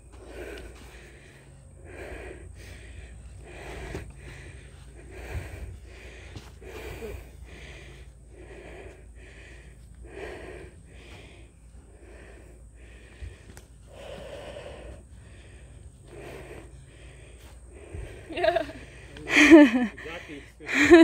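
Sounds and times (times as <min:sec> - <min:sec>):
low steady rumble: 0:00.0 - 0:21.0
person breathing hard: 0:00.0 - 0:21.0.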